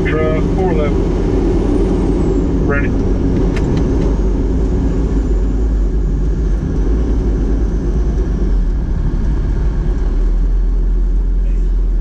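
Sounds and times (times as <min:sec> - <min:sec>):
fire truck engine and road rumble: 0:00.0 - 0:12.0.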